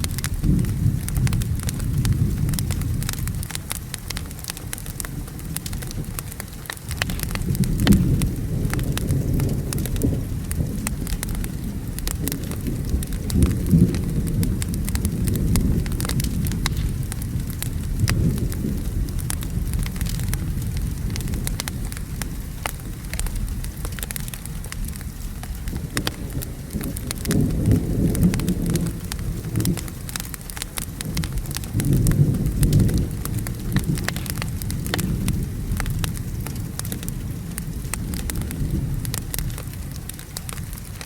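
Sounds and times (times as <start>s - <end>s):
distant thunder rumbling: 0.0s - 41.0s
rain: 0.0s - 41.0s
wood fire crackling: 0.0s - 41.0s.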